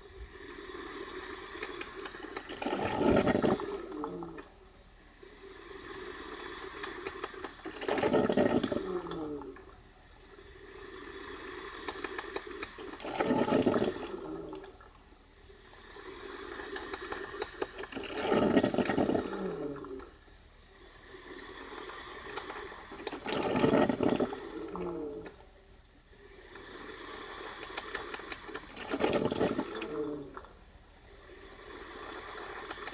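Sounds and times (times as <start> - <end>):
coffee maker gurgling and sputtering: 0.0 - 32.9.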